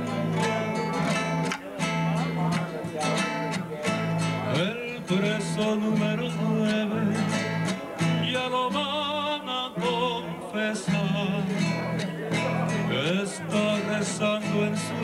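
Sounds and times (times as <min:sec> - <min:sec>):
plucked acoustic guitar: 0:00.0 - 0:15.0.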